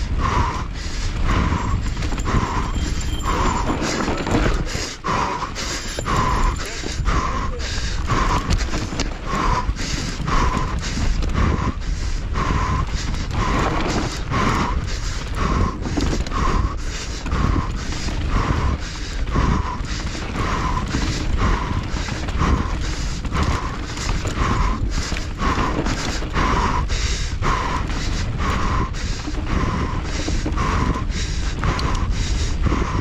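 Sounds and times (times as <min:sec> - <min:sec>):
bike rattling: 0:00.0 - 0:33.0
rider panting: 0:00.0 - 0:33.0
wind on microphone: 0:00.0 - 0:33.0.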